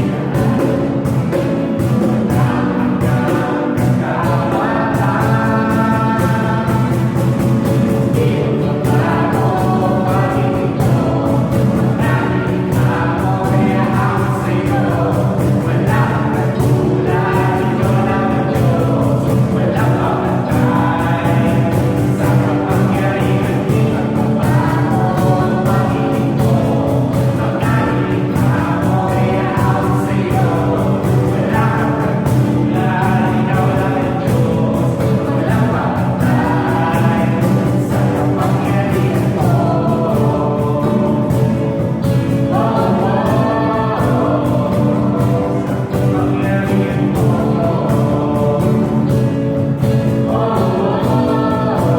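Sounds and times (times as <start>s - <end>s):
band with steady beat: 0.0s - 51.9s
group of people singing: 0.0s - 51.9s.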